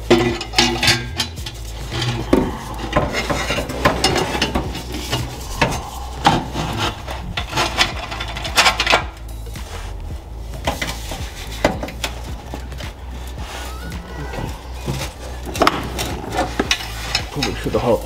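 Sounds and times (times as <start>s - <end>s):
metal exhaust pipes scraping and knocking: 0.0s - 18.0s.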